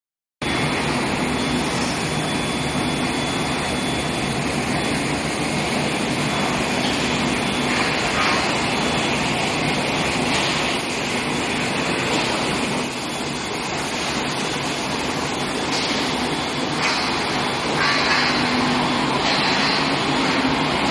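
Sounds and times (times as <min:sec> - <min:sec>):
machine hum: 0:00.4 - 0:20.9.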